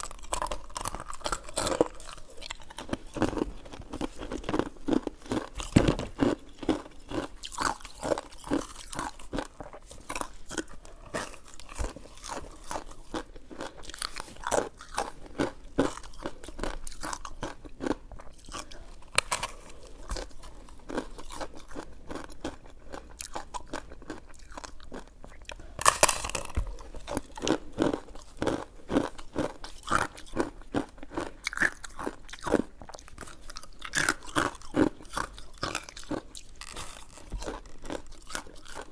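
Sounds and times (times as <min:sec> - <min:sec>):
wet chewing clicks and smacks: 0:00.0 - 0:38.9.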